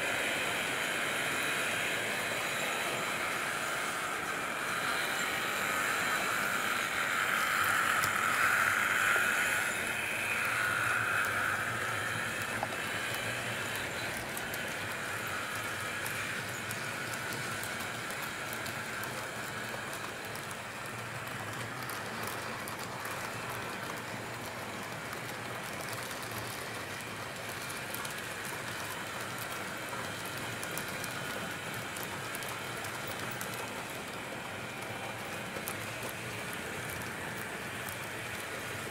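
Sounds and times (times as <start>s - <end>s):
model train wheels rattling on rails: 0.0s - 38.9s.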